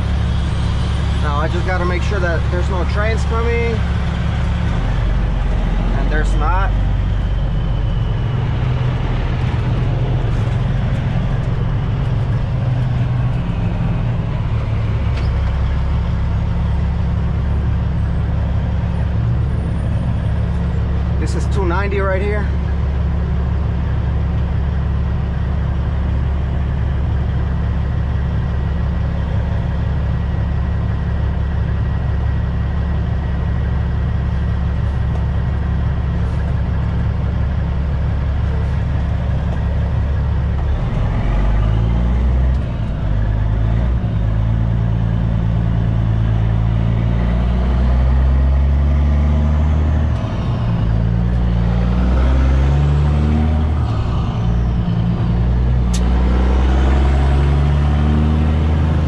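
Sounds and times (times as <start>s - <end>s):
diesel truck engine: 0.0s - 59.0s.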